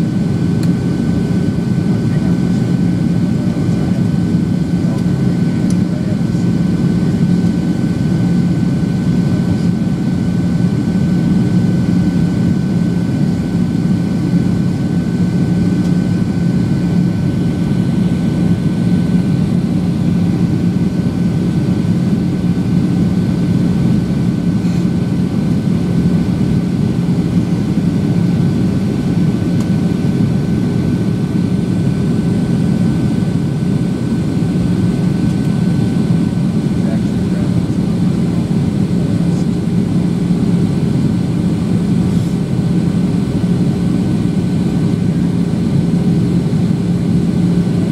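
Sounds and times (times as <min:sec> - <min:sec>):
jet engines droning: 0:00.0 - 0:47.9
thin steady whine: 0:00.0 - 0:47.9.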